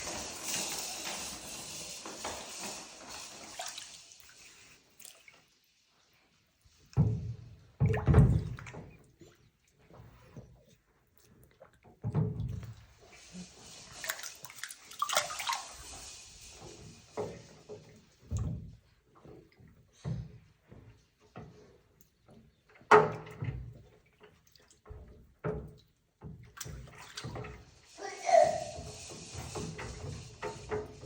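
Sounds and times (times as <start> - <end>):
water splashing in a bathtub: 0.0 - 31.0.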